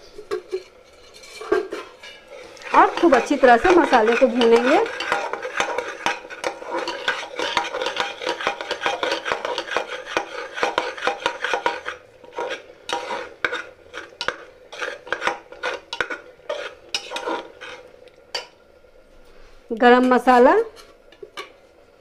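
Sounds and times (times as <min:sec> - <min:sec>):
metal spatula scraping pot: 0:00.3 - 0:18.5.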